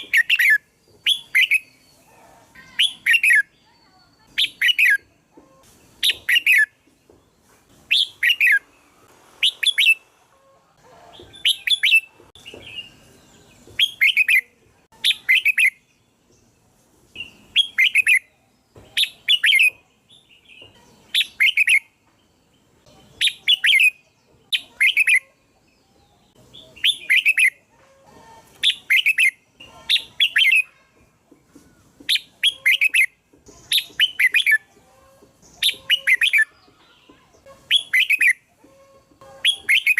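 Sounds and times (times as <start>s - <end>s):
bulbul calling: 0.0s - 3.6s, 4.2s - 6.8s, 7.9s - 8.7s, 9.4s - 13.0s, 13.7s - 15.8s, 17.2s - 21.9s, 22.8s - 25.5s, 26.1s - 31.0s, 31.8s - 39.9s.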